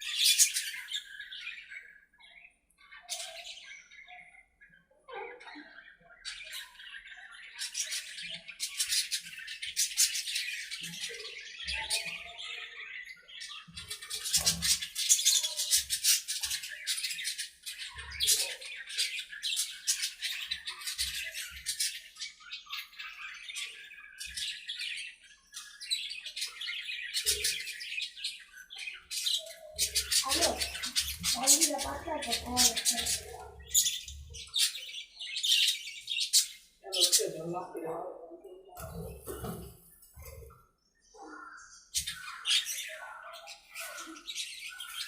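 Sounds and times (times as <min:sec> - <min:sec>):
budgerigars chattering and chirping: 0:00.0 - 0:37.9, 0:38.6 - 0:45.0.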